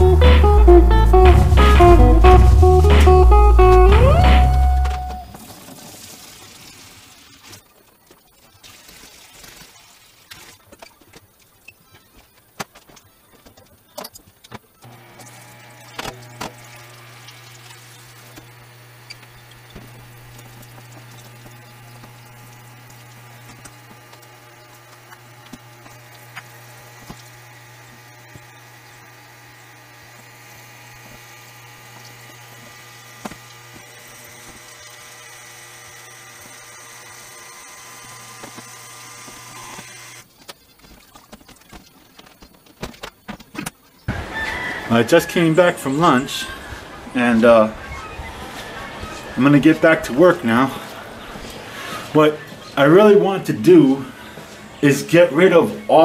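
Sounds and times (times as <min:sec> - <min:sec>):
electric water pump humming: 0:00.0 - 0:10.7, 0:14.1 - 0:47.7, 0:48.5 - 0:56.0.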